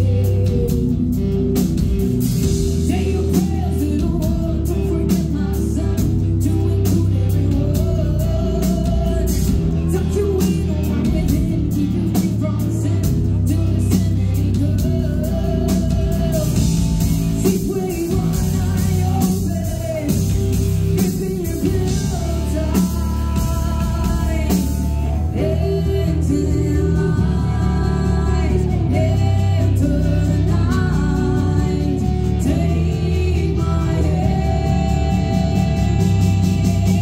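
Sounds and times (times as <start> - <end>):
bass guitar: 0.0 - 37.0
drum kit: 0.0 - 37.0
electric guitar: 0.0 - 37.0
woman singing: 0.0 - 37.0.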